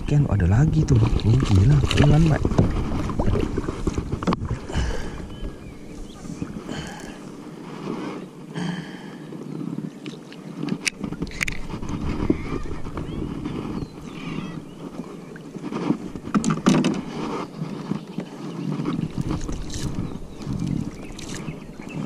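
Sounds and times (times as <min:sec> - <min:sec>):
water splashing: 0:00.0 - 0:09.2, 0:09.8 - 0:22.0.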